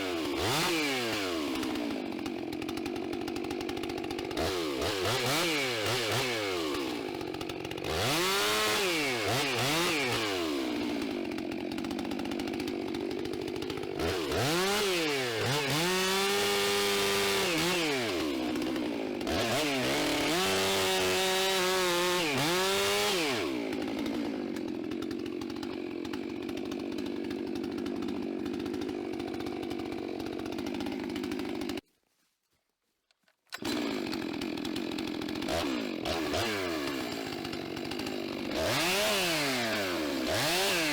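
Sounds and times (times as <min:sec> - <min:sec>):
chainsaw engine revving: 0:00.0 - 0:31.8, 0:33.5 - 0:40.9
chainsaw idling: 0:00.0 - 0:31.8, 0:33.5 - 0:40.9.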